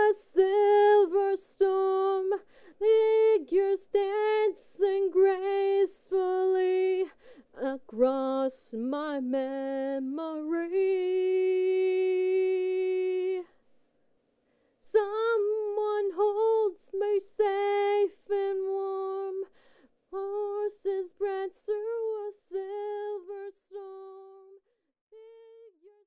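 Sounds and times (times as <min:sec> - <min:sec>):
woman singing a cappella: 0:00.0 - 0:13.6, 0:14.8 - 0:26.0.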